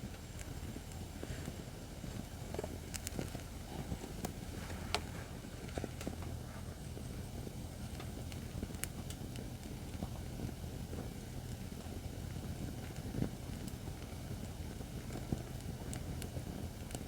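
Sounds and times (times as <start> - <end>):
fire crackling and popping: 0.0 - 17.0
firewood burning with low rumble: 0.0 - 17.0.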